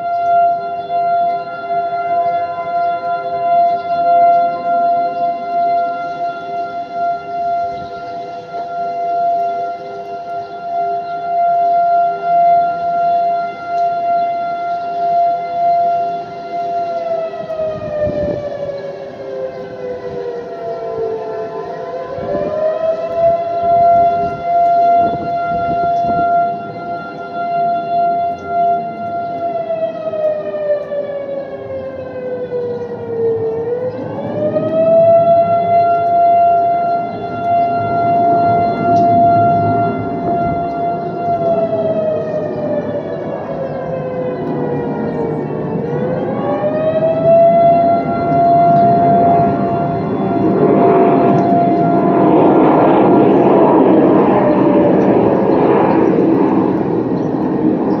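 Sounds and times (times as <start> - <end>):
lower steady siren tone: 0.0 - 58.0
warning siren pulsing tone: 0.0 - 58.0.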